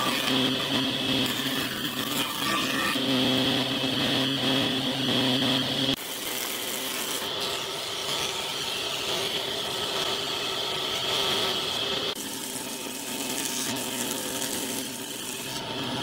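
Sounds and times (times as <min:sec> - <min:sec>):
wood planer planing board: 0:00.0 - 0:16.0.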